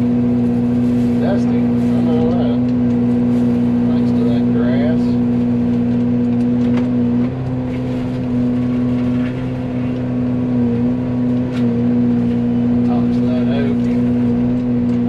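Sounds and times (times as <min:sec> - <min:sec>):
forestry mulcher loud steady hum: 0:00.0 - 0:15.0.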